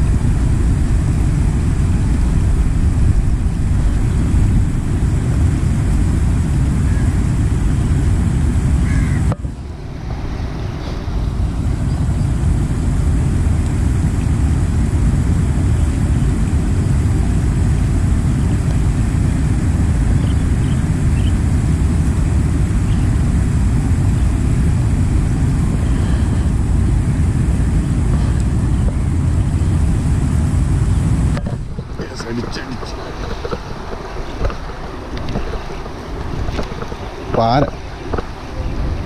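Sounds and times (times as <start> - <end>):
wind on microphone: 0.0 - 39.0.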